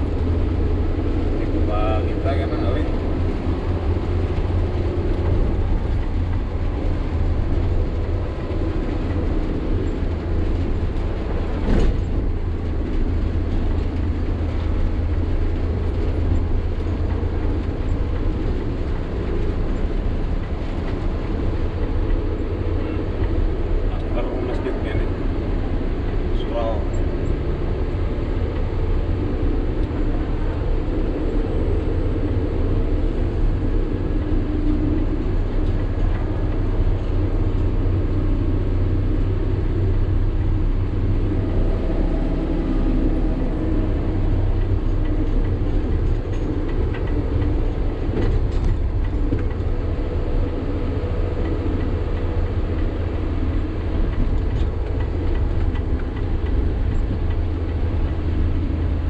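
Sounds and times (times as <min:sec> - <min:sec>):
diesel engine droning: 0:00.0 - 0:59.0
road rumble: 0:00.0 - 0:59.0.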